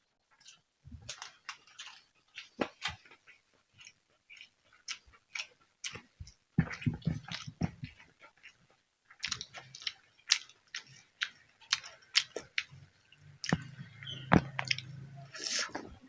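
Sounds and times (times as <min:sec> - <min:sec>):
chewing crisp food: 0:00.2 - 0:15.8.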